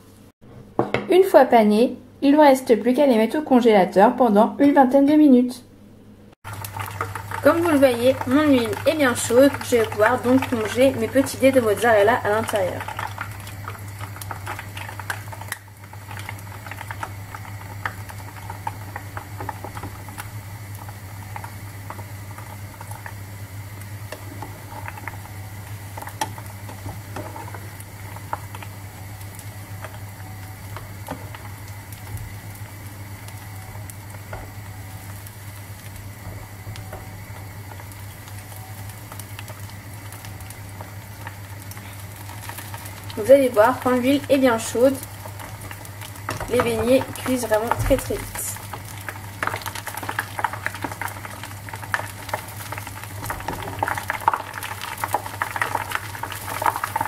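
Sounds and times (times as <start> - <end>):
food deep-frying in oil: 6.4 - 57.0.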